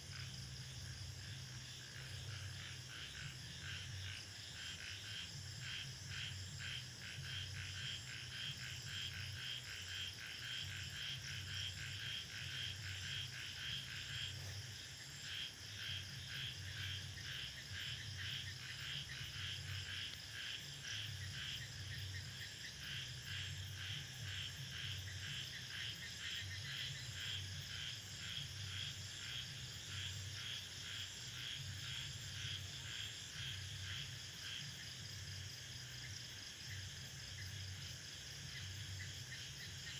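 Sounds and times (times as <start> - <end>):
crickets chirping: 0.0 - 39.9
frogs throbbing call: 0.0 - 39.9.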